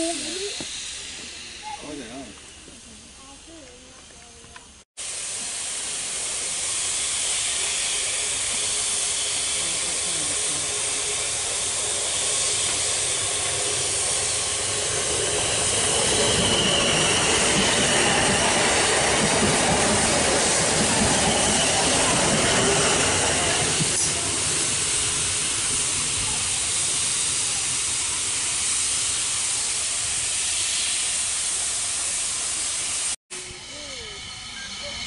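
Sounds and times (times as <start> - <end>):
electric train running past: 0.0 - 35.0
steam locomotive hissing: 0.0 - 35.0.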